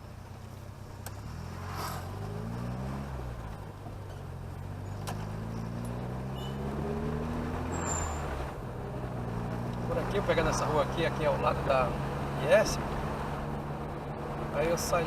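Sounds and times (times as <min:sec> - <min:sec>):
car engine accelerating: 0:00.6 - 0:15.0.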